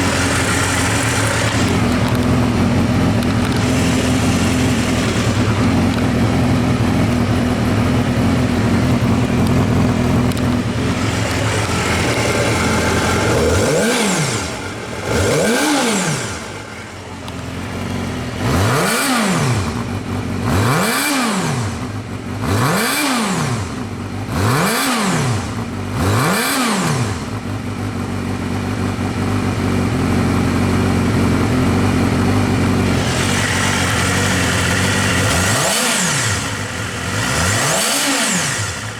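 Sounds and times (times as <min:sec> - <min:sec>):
motorcycle engine idling: 0:00.0 - 0:26.3, 0:27.0 - 0:38.9
motorcycle engine revving: 0:00.0 - 0:38.9.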